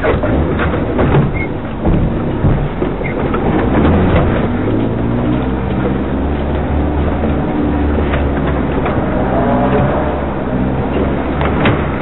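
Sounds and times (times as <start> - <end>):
vehicle body knocks and rattles: 0.0 - 12.0
vehicle engine running slowly: 0.0 - 12.0.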